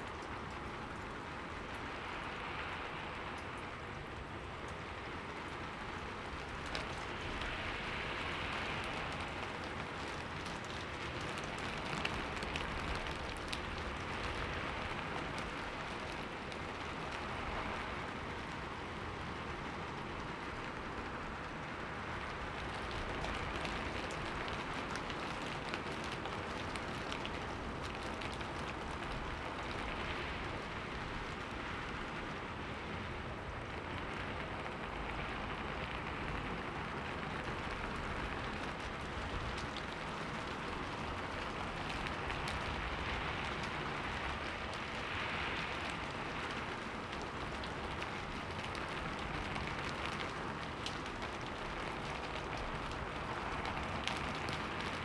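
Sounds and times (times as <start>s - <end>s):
rain falling on window: 0.0s - 55.0s.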